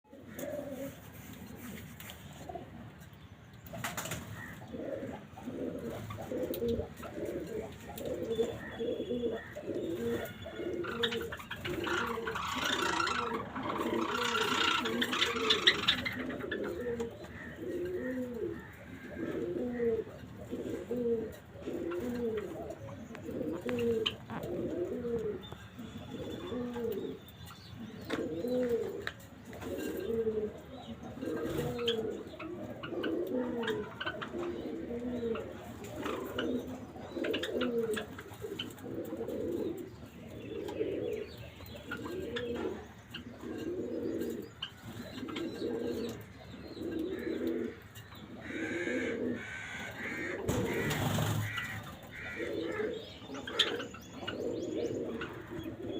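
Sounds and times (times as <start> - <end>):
pigeons cooing: 0.1 - 3.0, 3.8 - 55.9
sparrows chirping: 0.1 - 55.9.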